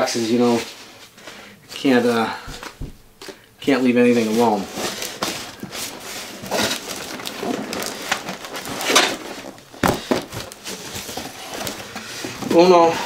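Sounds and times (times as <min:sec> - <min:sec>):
cardboard boxes rustling and scraping: 0:00.4 - 0:13.0.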